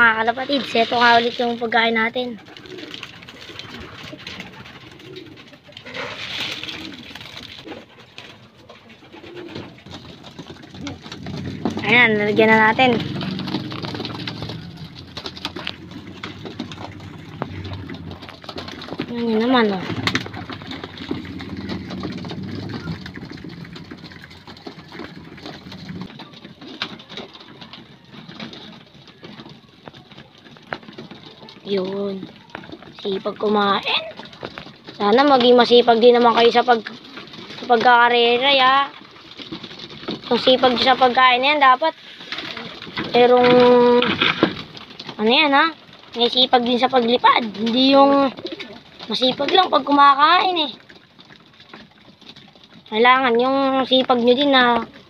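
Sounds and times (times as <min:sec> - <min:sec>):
pigeons cooing: 0:00.0 - 0:52.9
rustling: 0:00.0 - 0:55.0.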